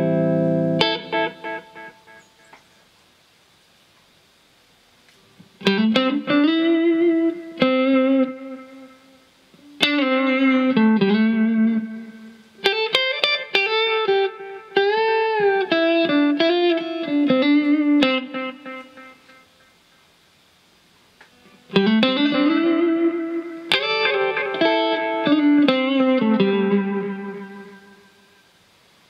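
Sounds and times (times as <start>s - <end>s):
electric guitar lead with echo: 0.0s - 2.5s, 5.6s - 19.7s, 21.3s - 28.5s.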